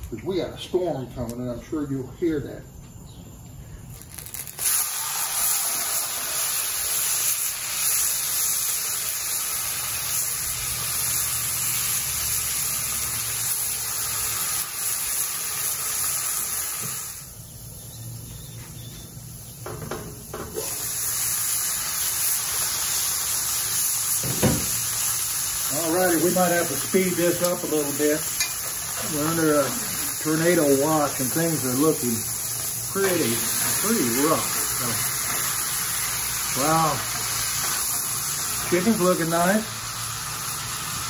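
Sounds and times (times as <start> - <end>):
chicken sizzling in oil: 4.1 - 17.4, 19.6 - 41.0.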